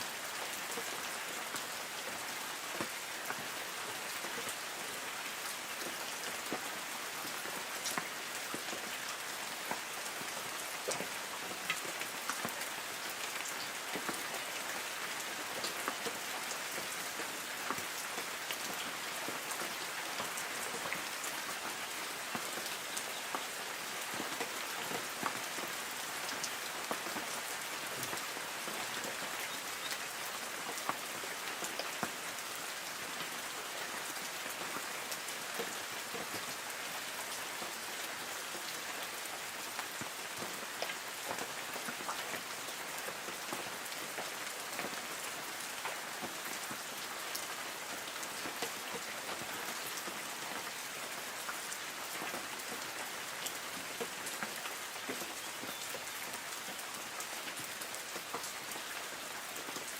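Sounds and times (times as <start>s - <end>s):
rain patter on leaves: 0.0s - 59.9s.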